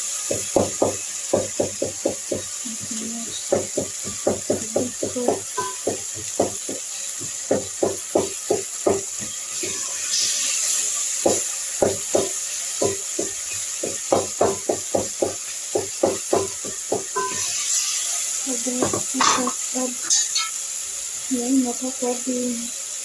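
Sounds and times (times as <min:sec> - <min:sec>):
steady sizzle: 0:00.0 - 0:23.0.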